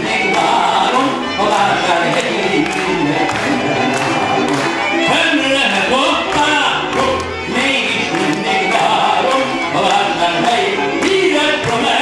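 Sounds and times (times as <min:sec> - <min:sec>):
man singing: 0:00.0 - 0:03.8, 0:05.0 - 0:12.0
double bass: 0:00.0 - 0:12.0
violins: 0:00.0 - 0:12.0.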